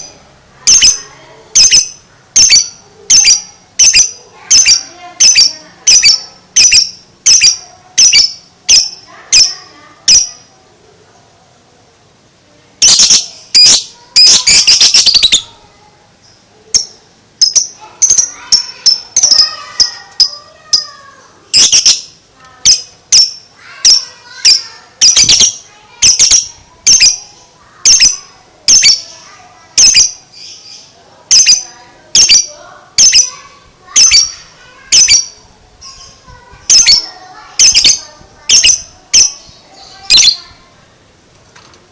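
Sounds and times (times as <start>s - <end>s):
bird chattering calls: 0.0s - 10.5s, 12.8s - 15.6s, 16.3s - 40.6s
soft bird twittering: 0.7s - 10.5s, 12.8s - 15.6s, 16.2s - 40.6s.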